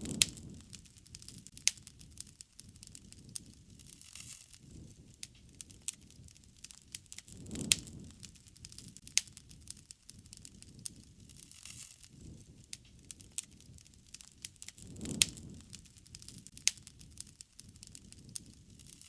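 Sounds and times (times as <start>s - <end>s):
burning wood popping: 0.0s - 19.0s
low rush of flame: 0.0s - 19.0s
wood fire crackling: 0.0s - 19.0s.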